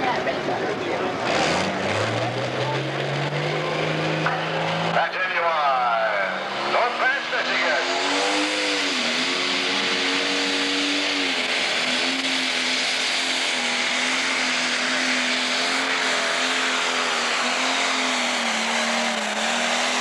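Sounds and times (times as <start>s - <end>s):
diesel tractor engine droning: 0.0s - 20.0s.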